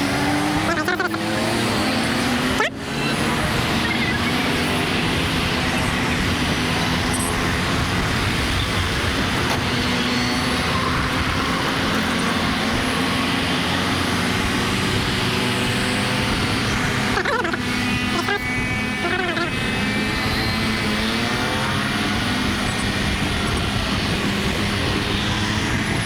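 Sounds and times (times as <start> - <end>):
motorcycle engine hum: 0.0 - 26.0
traffic: 0.0 - 26.0
wind rumble on microphone: 3.3 - 26.0.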